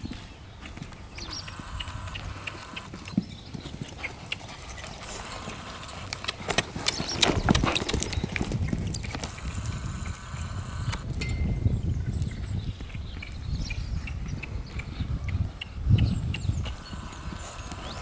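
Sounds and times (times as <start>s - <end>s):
hooves cantering on sand: 0.0s - 18.0s.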